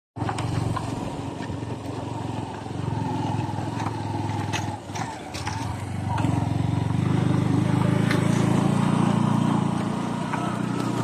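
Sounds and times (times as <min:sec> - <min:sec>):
motorbike engine running: 0:00.2 - 0:11.0.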